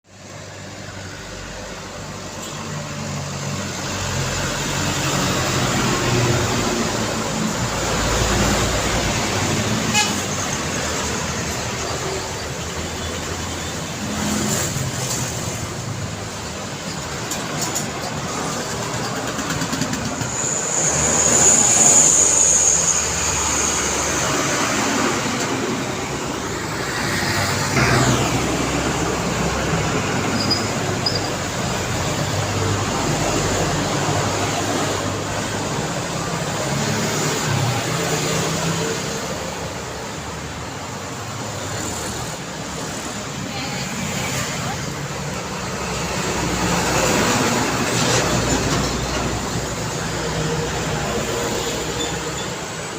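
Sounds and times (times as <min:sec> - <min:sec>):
road traffic passing: 0:00.0 - 0:52.9.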